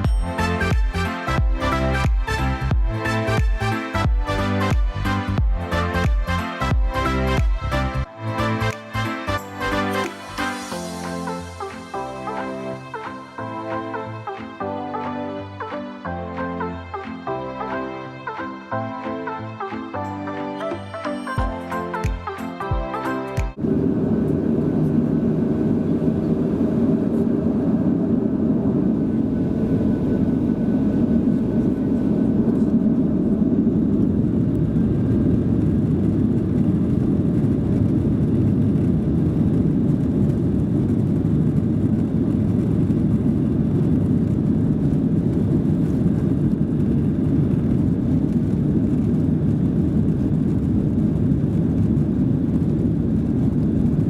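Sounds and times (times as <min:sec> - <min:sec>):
jet engine and airflow rush: 0:00.0 - 0:54.0.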